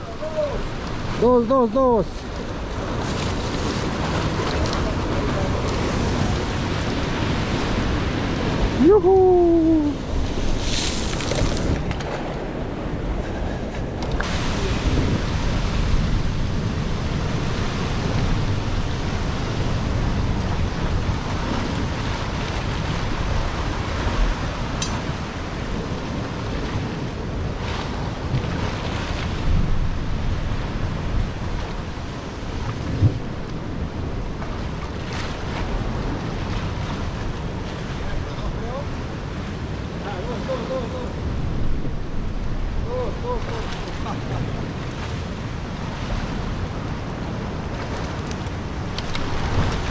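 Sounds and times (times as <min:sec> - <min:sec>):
surf washing against rocks: 0:00.0 - 0:49.9
wind buffeting microphone: 0:00.0 - 0:49.9.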